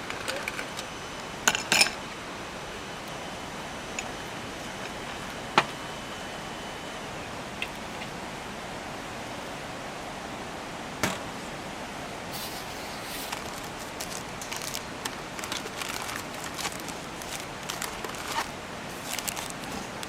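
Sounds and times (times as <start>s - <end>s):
mountain stream rushing: 2.0s - 20.0s.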